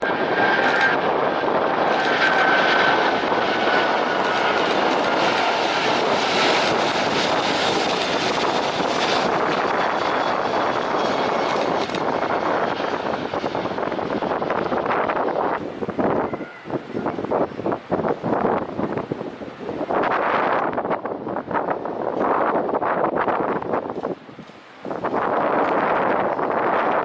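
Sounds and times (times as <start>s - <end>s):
jet engines rushing: 0.0s - 27.0s.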